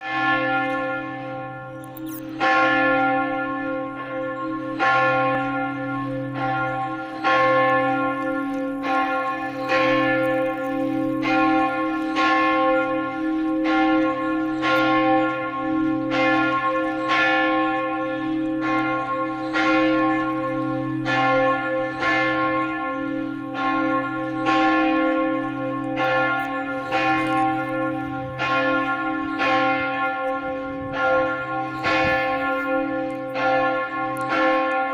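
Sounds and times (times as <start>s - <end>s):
church bell ringing: 0.0s - 34.9s.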